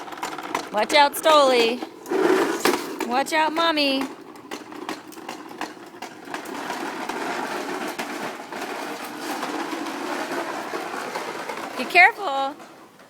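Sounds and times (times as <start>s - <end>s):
toy lawn mower rattling and clicking: 0.0s - 13.0s.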